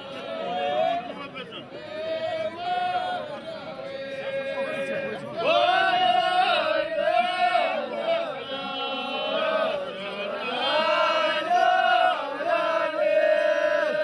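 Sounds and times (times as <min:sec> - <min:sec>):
men chanting together: 0:01.8 - 0:14.0.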